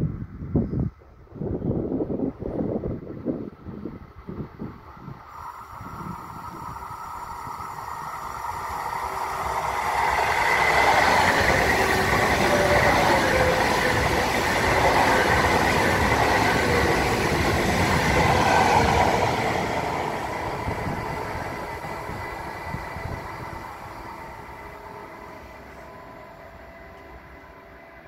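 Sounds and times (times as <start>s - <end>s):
high-speed train passing: 1.2s - 28.0s
wheels rushing on rail: 1.4s - 28.0s.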